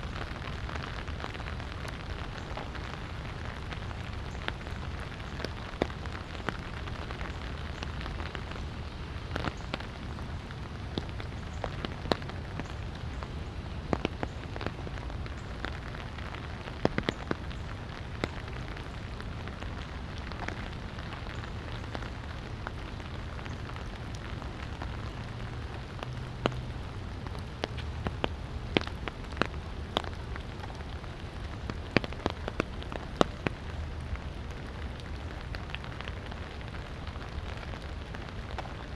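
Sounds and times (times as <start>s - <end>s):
light rain falling: 0.0s - 38.9s
raindrop taps: 0.1s - 38.9s.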